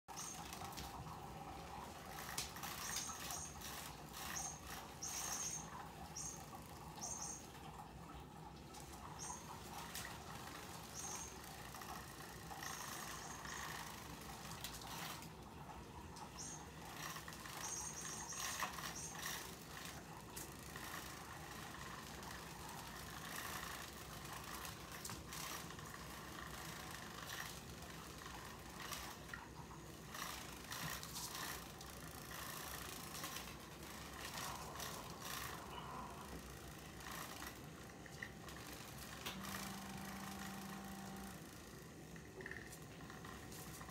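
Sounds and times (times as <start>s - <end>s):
plastic toy rattling on tile floor: 1.8s - 7.4s, 8.8s - 15.4s, 16.4s - 43.9s.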